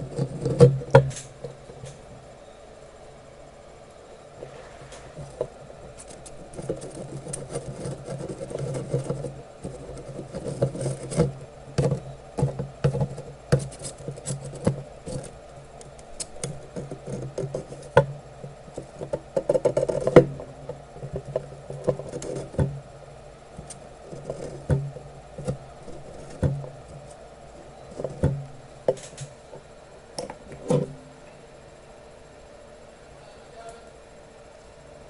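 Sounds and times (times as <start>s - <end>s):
soldering tools clicking and scratching: 0.0s - 2.1s, 4.9s - 31.0s
steady low hum: 0.0s - 35.0s.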